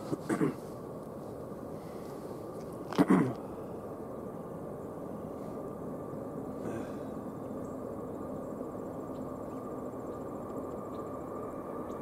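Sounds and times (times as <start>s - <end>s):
distant locomotive rumble: 0.0s - 12.0s.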